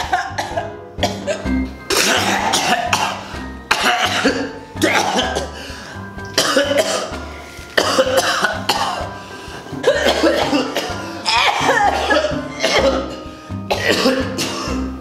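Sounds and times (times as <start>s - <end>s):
man coughing hard: 0.0s - 5.6s, 6.4s - 7.1s, 7.8s - 9.1s, 9.8s - 14.9s
background music: 0.0s - 15.0s.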